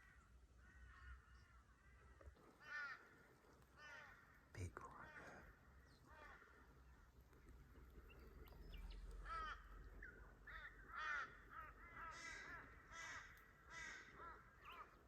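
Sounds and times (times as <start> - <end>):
crow cawing faintly: 0.0 - 15.0.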